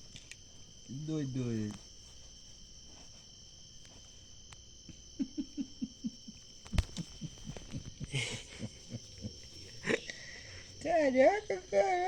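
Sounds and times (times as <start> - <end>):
high insect trilling: 0.0 - 12.0.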